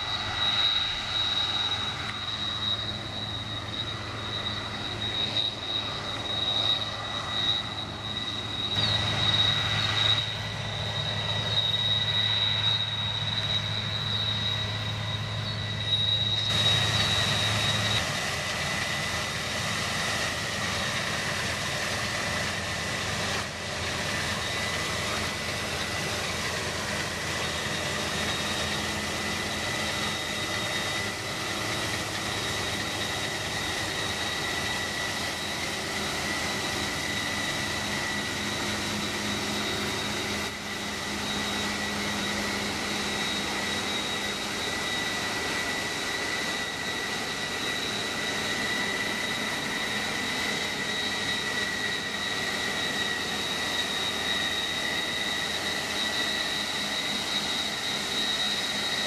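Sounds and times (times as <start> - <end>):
combine harvester running: 0.0 - 59.0
high-pitched whine: 0.0 - 59.0.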